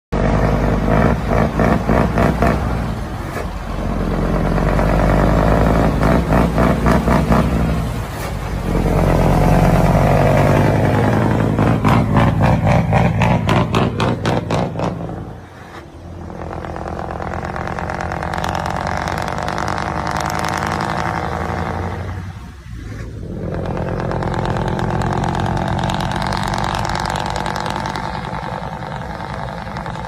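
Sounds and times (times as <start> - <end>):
engine revving through exhaust: 0.1 - 30.0.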